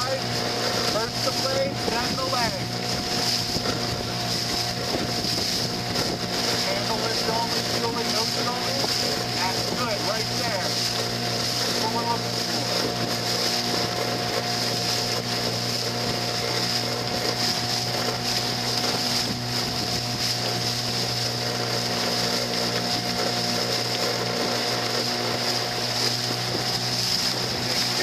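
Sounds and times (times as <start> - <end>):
motorboat engine drone: 0.0 - 28.0.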